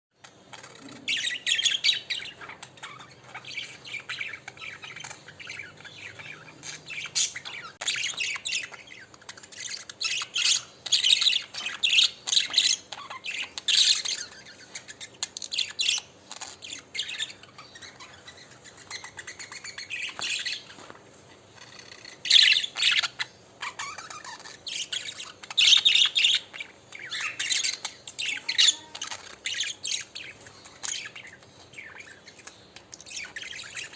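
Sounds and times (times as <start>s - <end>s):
budgerigars chattering: 0.2s - 33.9s.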